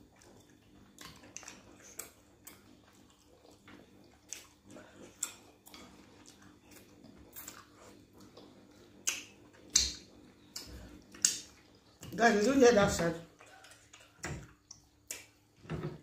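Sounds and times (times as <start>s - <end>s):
wet mouth eating sounds: 0.0s - 12.2s, 13.2s - 15.5s.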